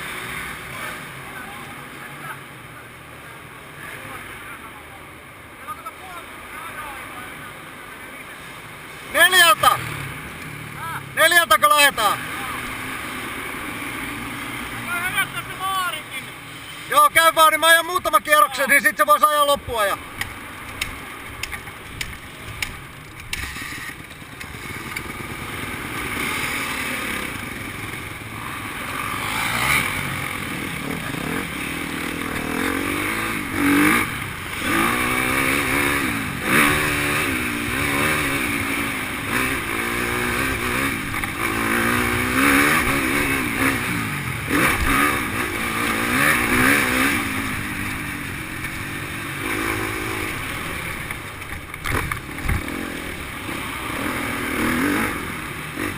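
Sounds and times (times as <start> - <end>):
motocross bike engine revving: 9.1 - 55.9.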